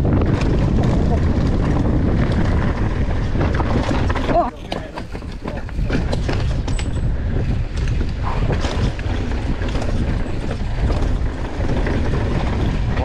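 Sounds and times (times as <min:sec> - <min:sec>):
bike clicks and rattles: 0:00.0 - 0:13.0
bike tyre noise: 0:00.0 - 0:13.0
wind buffeting microphone: 0:00.0 - 0:13.0.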